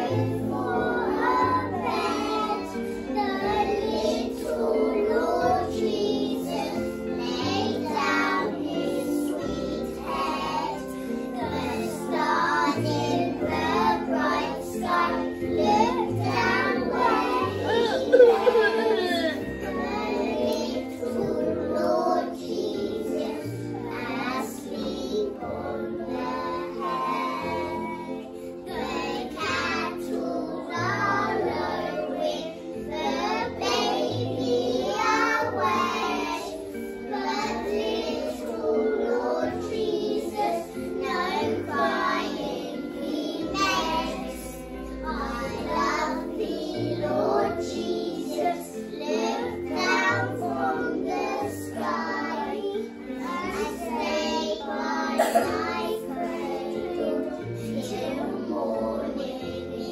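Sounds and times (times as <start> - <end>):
children singing: 0.0 - 59.9.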